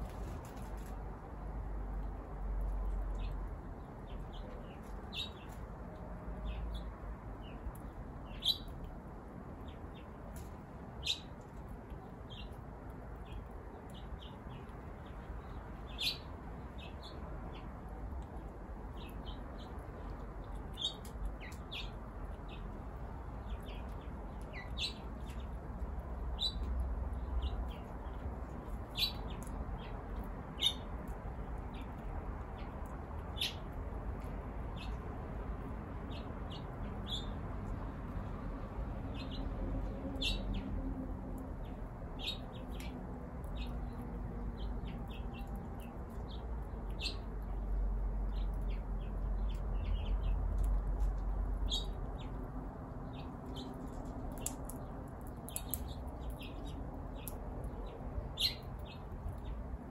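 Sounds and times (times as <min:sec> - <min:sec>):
small birds chirping: 0:00.0 - 0:40.8, 0:41.4 - 0:59.9.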